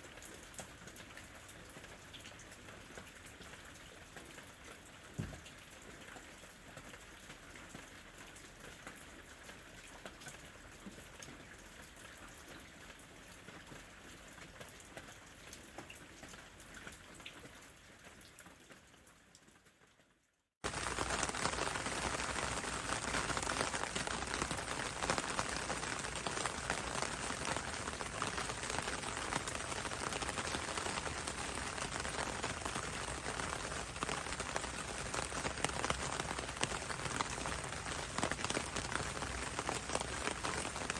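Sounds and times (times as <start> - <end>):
heavy rain downpour: 0.0 - 19.0, 20.6 - 40.9
light rain patter: 0.0 - 40.9.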